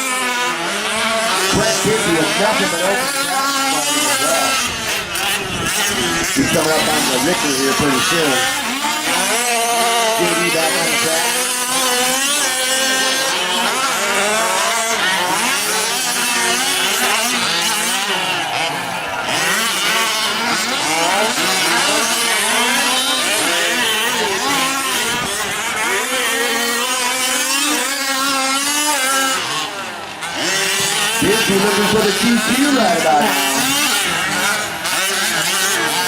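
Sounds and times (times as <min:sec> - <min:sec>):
small two-stroke engines revving: 0:00.0 - 0:36.0.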